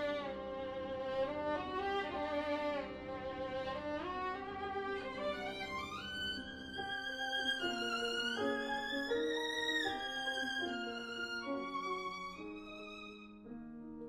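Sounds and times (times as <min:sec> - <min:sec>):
bowed violin slow melody: 0:00.0 - 0:13.8.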